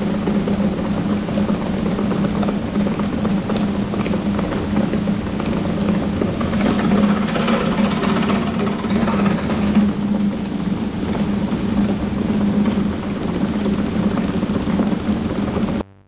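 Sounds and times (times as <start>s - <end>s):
grain auger humming: 0.0s - 15.9s.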